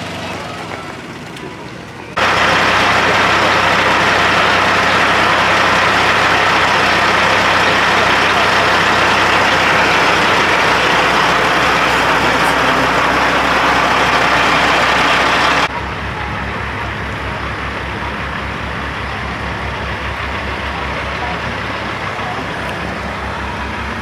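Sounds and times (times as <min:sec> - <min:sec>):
diesel engine idling: 0:00.0 - 0:24.0
diesel truck engine running: 0:00.0 - 0:24.0.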